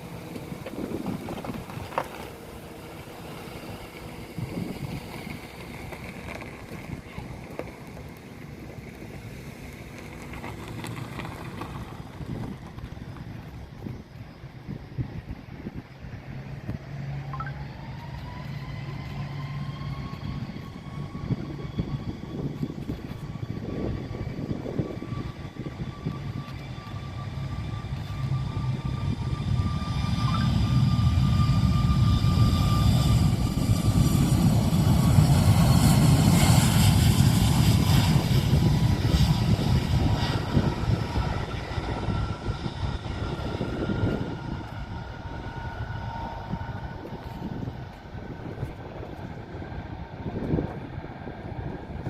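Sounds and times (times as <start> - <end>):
high jet engine whine: 0.0 - 52.0
jet engine rumble: 0.0 - 52.0.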